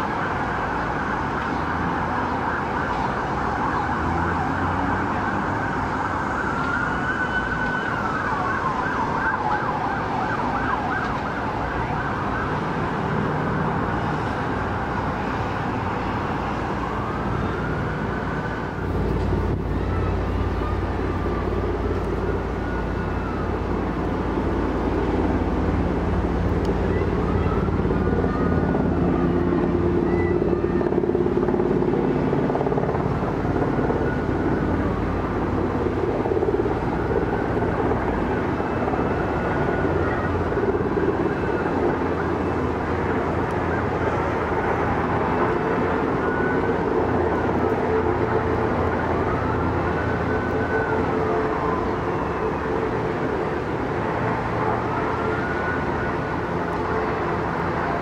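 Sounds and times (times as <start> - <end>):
helicopter rotors and turbines: 0.0 - 58.0.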